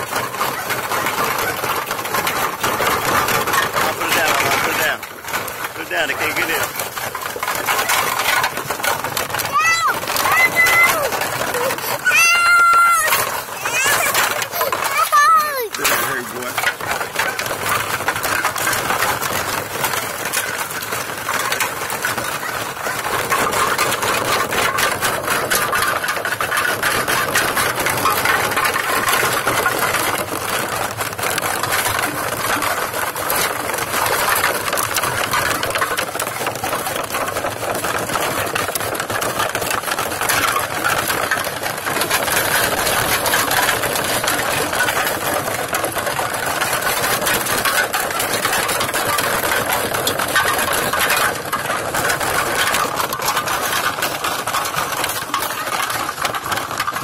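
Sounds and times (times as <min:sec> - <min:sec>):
cans and bottles clattering: 0:00.0 - 0:57.0.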